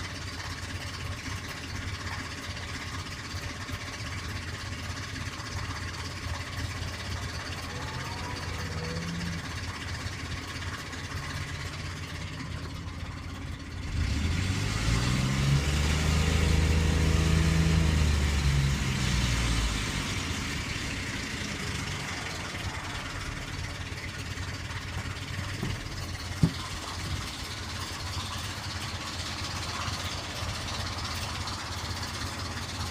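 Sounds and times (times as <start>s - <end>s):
car engine idling with ticking: 0.0s - 32.9s.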